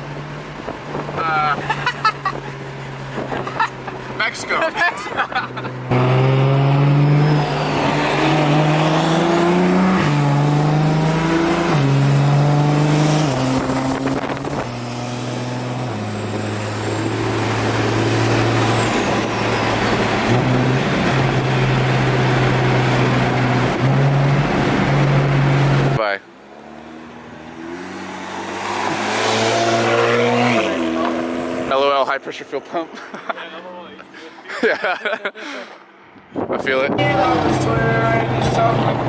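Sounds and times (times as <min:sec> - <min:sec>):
car engine and exhaust revving: 0:00.0 - 0:32.8, 0:36.0 - 0:39.0.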